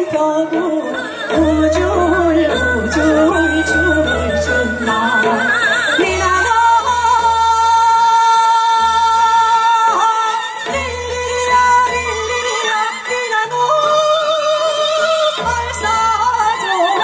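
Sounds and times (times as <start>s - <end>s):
amplified instrumental accompaniment: 0.0s - 13.7s
woman singing with vibrato: 0.0s - 17.0s.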